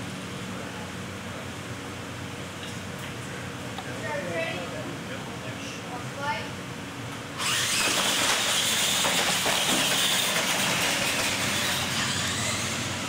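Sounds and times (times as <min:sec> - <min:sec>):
high whine of motors and gears: 0:00.0 - 0:13.0.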